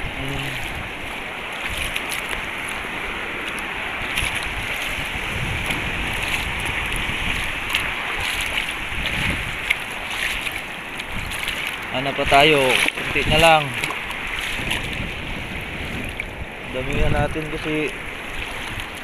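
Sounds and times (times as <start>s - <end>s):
seawater lapping in small waves: 0.0s - 19.0s
small water splashes: 0.0s - 19.0s
wind gusting on microphone: 0.0s - 19.0s.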